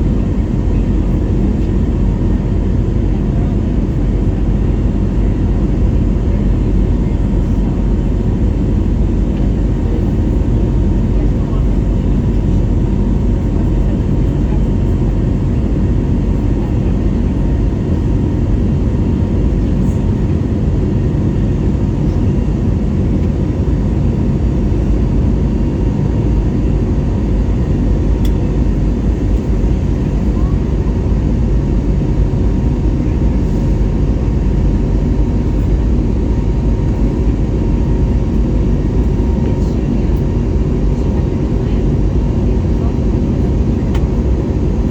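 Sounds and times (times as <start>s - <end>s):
jet engine rumble in cabin: 0.0s - 44.9s.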